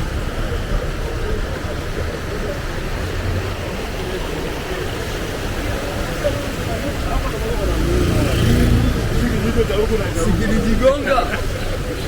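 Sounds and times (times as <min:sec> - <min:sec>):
vehicle and road noise rumble: 0:00.0 - 0:12.0.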